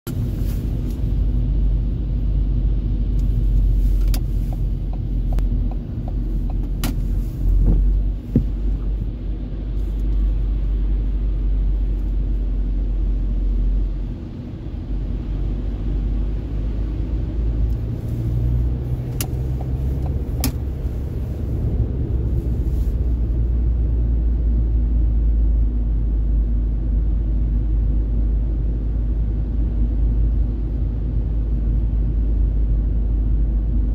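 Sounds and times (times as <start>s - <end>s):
car driving on wet road: 0.1s - 33.9s.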